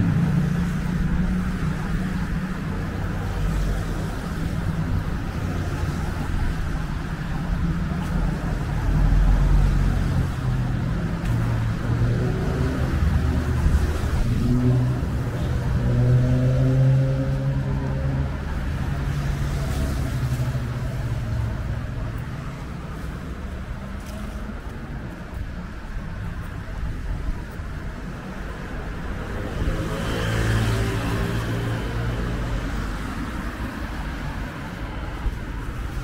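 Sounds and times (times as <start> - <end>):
cars passing on wet road: 0.0 - 36.0.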